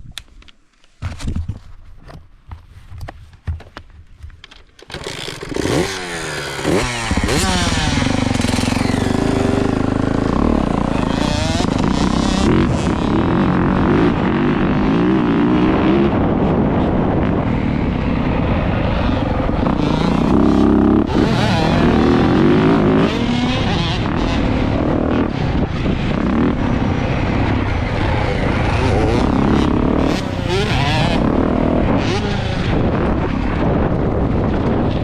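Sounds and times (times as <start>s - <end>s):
dirt bike engine revving: 4.9s - 33.9s.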